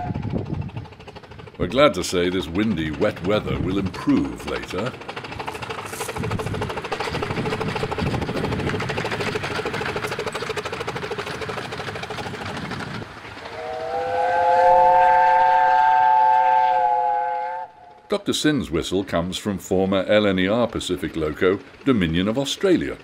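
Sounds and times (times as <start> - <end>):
steam locomotive beats: 0.0 - 23.0.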